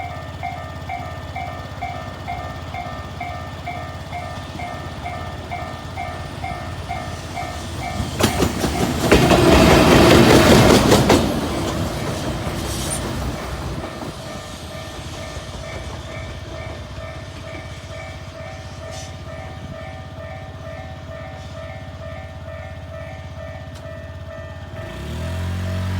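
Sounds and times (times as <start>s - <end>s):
train wheels rushing on rails: 0.0s - 25.9s
wheels clacking over rail joints: 0.0s - 25.9s.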